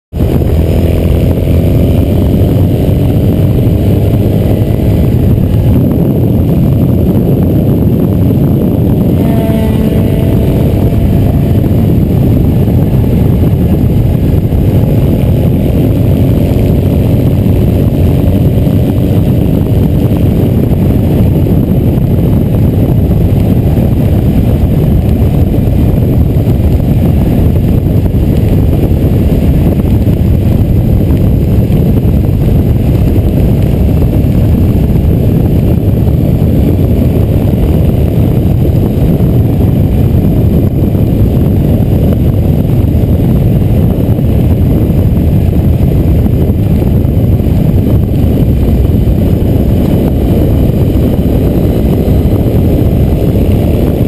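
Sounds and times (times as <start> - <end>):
motorcycle engine running: 0.0 - 54.0
wind rushing: 0.1 - 54.0
motorcycle passing at speed: 0.2 - 54.0.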